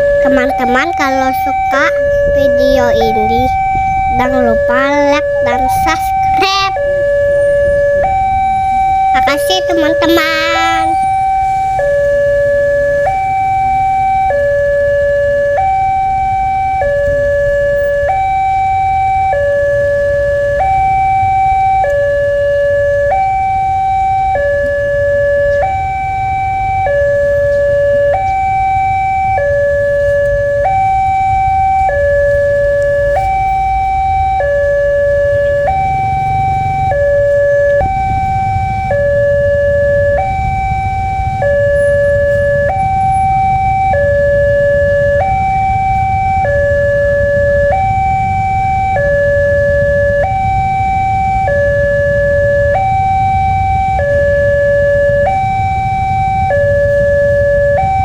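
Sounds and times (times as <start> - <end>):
two-tone crossing alarm: 0.0 - 58.0.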